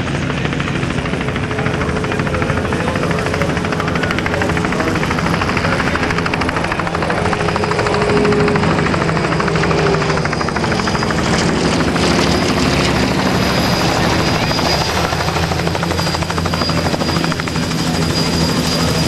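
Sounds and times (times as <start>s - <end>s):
propeller plane flying overhead: 0.0s - 19.0s.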